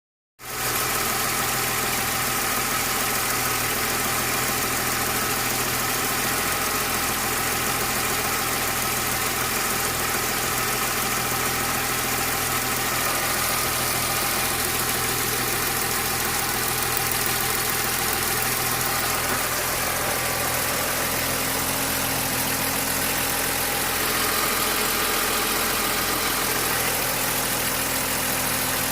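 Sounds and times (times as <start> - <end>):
car engine idling: 0.5 - 28.9.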